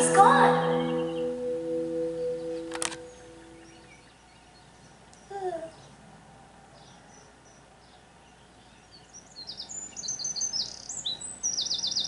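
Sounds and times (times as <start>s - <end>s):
birdsong through tv speaker: 0.0s - 12.0s.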